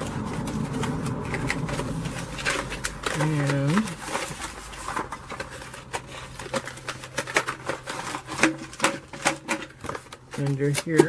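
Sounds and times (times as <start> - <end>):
hands handling box packaging: 0.0 - 11.0.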